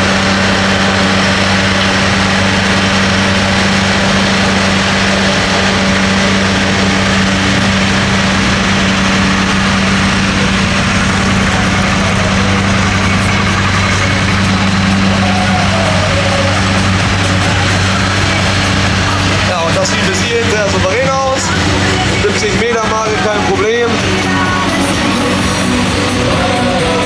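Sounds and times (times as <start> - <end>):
tractor engine idling: 0.0 - 27.0.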